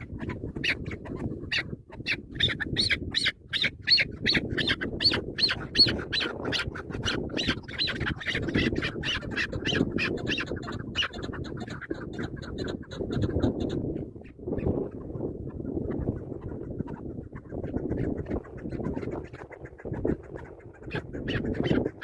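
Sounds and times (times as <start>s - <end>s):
partridge calling: 0.0s - 22.0s.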